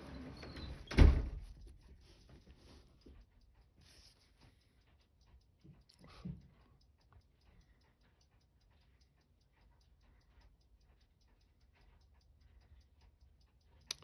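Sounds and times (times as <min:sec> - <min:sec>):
mechanical watch ticking: 0:00.2 - 0:14.0.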